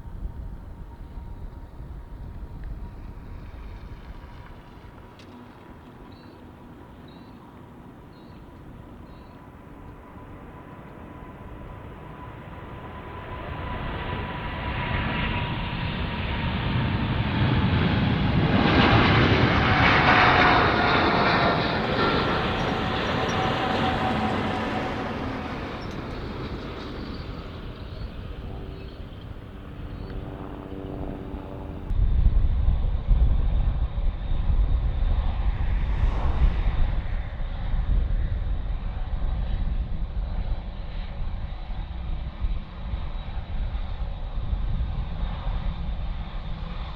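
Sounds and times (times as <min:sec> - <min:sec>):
jet airliner passing: 0:00.0 - 0:46.9.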